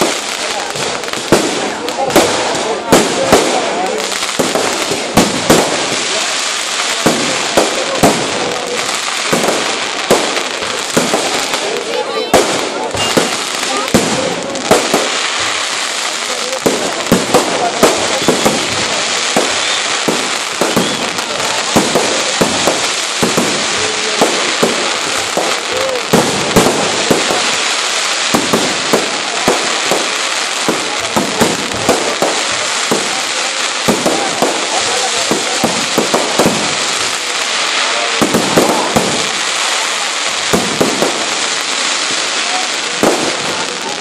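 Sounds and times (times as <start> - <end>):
fireworks bangs: 0.0 - 44.0
fireworks hiss and crackle: 0.0 - 44.0.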